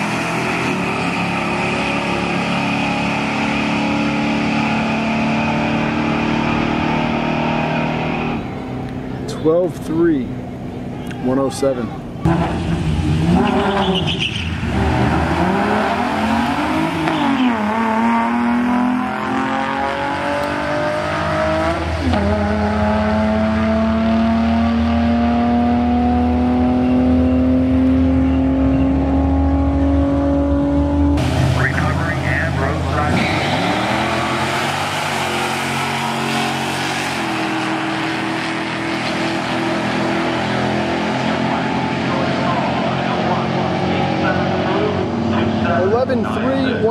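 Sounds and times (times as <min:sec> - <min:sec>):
drag cars engines revving: 0:00.0 - 0:46.9.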